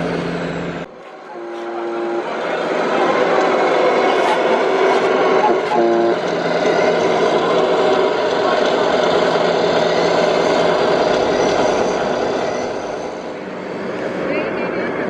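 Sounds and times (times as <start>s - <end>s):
diesel truck engine sound: 0.0s - 15.0s.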